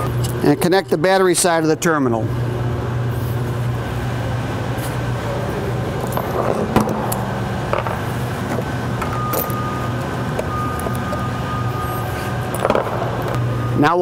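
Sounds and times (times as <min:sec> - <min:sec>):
low hum: 0:02.2 - 0:14.0.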